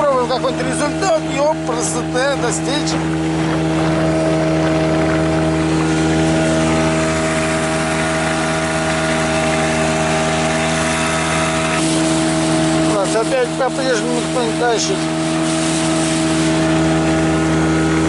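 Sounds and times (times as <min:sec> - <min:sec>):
outboard motor running: 0:00.0 - 0:18.0
water rushing: 0:00.0 - 0:18.0
wind: 0:00.0 - 0:18.0.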